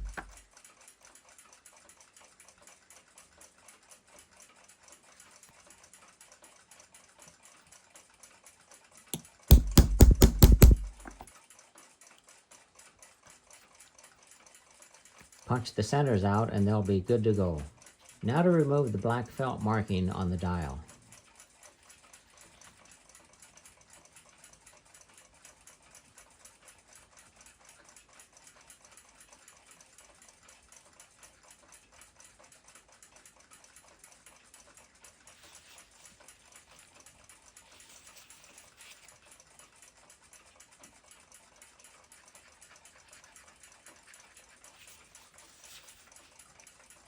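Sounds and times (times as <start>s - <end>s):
mechanical clock ticking: 0.0s - 47.0s.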